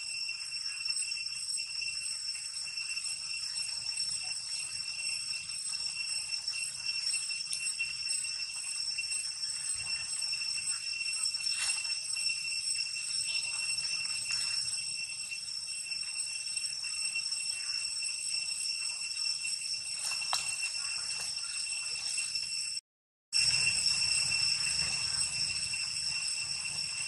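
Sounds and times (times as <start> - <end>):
shrill insect chorus: 0.0 - 22.8, 23.4 - 27.0.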